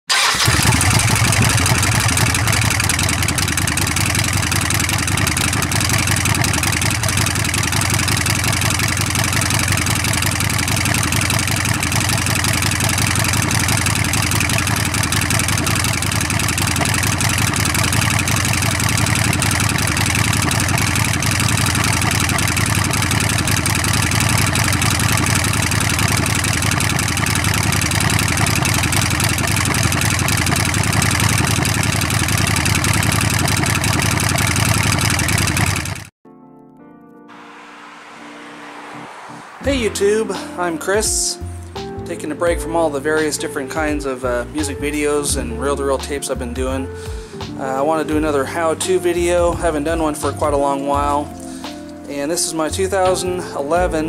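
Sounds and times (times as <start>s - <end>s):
motorcycle engine idling: 0.1s - 36.1s, 42.2s - 51.9s.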